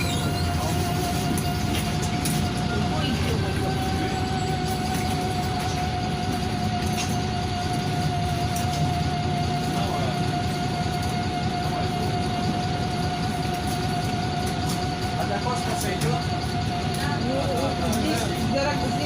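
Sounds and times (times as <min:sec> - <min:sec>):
bus diesel and road rumble: 0:00.0 - 0:19.0
high whine: 0:00.0 - 0:19.0.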